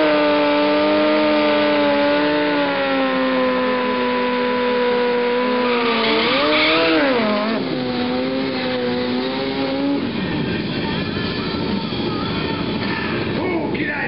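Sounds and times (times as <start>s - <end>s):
motorcycle engine at high revs: 0.0s - 12.6s.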